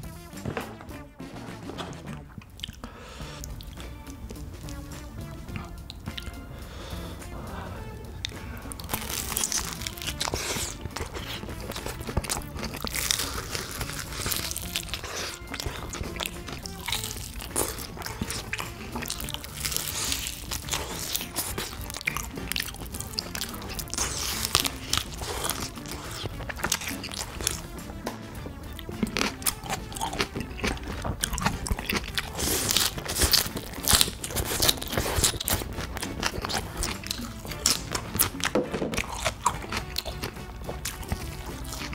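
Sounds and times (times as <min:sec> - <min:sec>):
crunching fried chicken: 0:00.0 - 0:41.9
wet chewing: 0:00.0 - 0:41.9.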